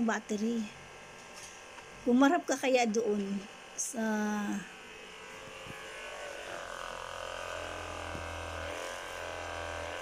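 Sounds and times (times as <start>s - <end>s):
massage gun motor humming: 0.0s - 10.0s.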